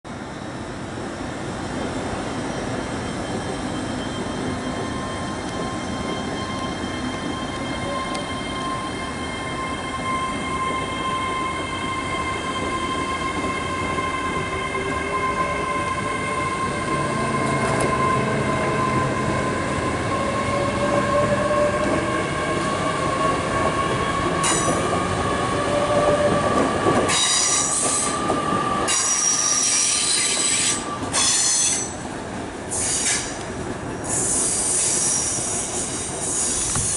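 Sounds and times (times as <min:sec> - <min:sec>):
train whine: 0:00.1 - 0:36.9
high-pitched wheel squeal: 0:02.5 - 0:26.5, 0:27.1 - 0:32.0, 0:34.0 - 0:36.9.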